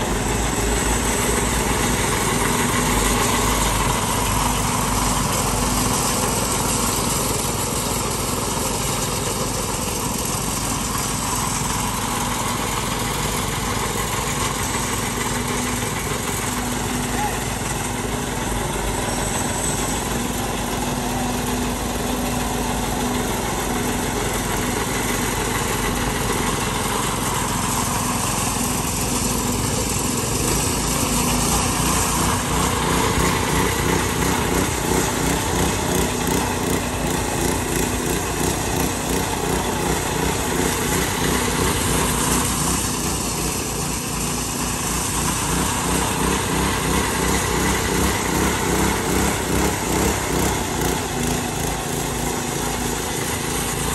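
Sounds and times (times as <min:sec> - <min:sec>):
small petrol engine running: 0:00.0 - 0:53.9.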